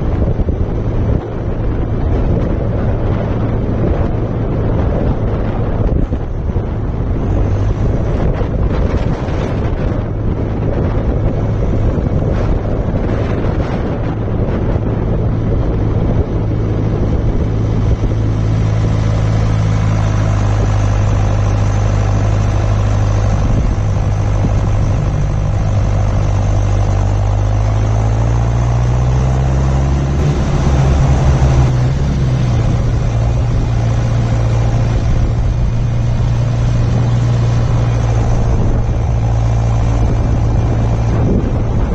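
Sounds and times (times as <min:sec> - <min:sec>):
tractor diesel engine running: 0:00.0 - 0:41.9
wind buffeting microphone: 0:00.0 - 0:41.9.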